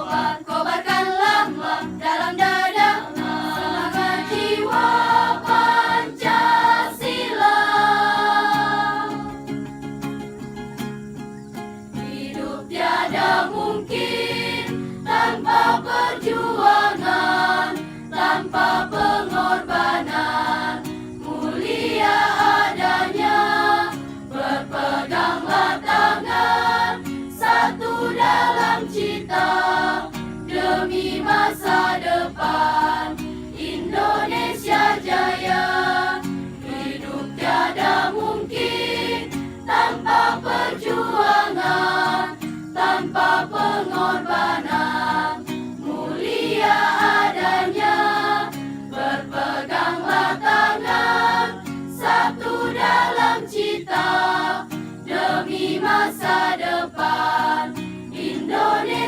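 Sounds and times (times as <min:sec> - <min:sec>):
choir singing: 0:00.0 - 0:09.7, 0:11.9 - 0:59.0.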